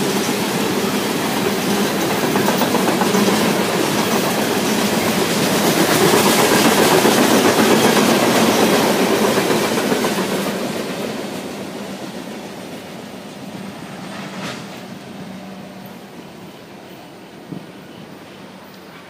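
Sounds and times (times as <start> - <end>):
freight train cars rolling on rails: 0.0 - 19.0.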